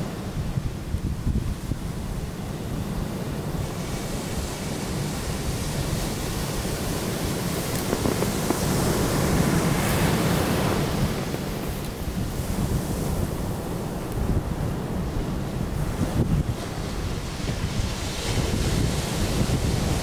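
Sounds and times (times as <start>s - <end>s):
ocean surf breaking: 0.0s - 20.0s
wind rumble on microphone: 0.0s - 20.0s.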